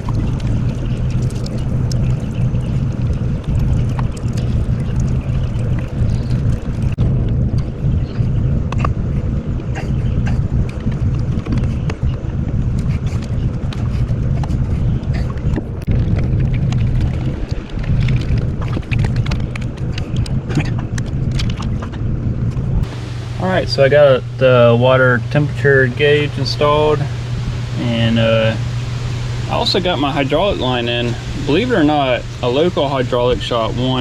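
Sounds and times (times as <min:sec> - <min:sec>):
motor droning: 0:00.0 - 0:34.0.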